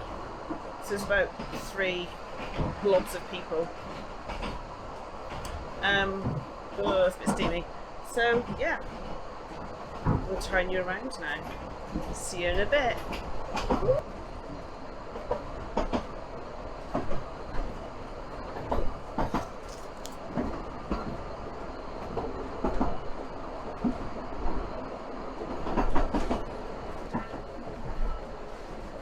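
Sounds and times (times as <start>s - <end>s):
train carriage rumbling: 0.0s - 29.0s.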